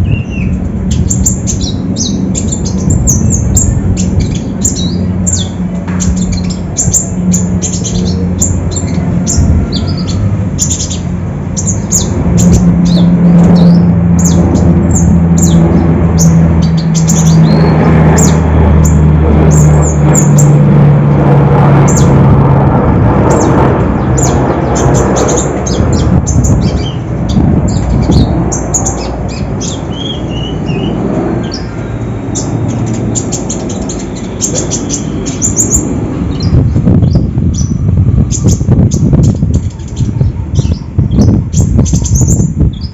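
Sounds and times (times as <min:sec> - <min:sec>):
songbird chirps and trills: 0:00.0 - 0:20.6, 0:23.3 - 0:42.9
steady low drone: 0:00.0 - 0:42.9.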